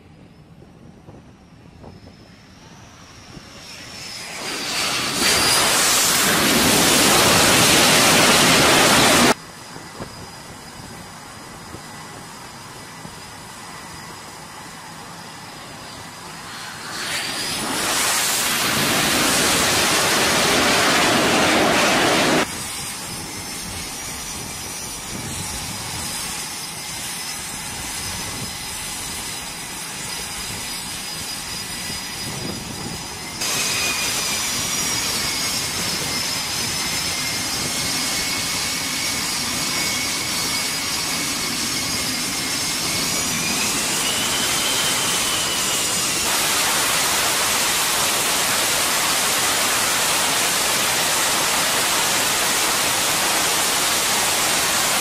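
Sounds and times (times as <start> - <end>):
high-pitched turbine whine: 0.0 - 55.0
jet landing rush: 0.0 - 55.0.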